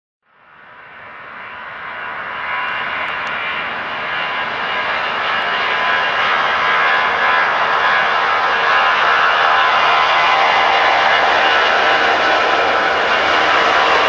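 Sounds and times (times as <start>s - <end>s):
jet airliner engines roaring: 0.3s - 14.0s.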